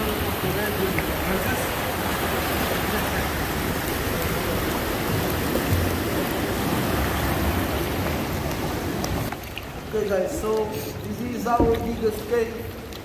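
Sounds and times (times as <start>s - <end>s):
wind and sea water rushing: 0.0s - 13.0s.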